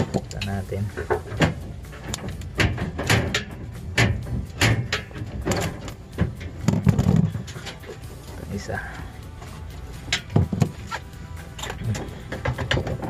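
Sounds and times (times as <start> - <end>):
wire stripper clicking and scraping: 0.0 - 13.0.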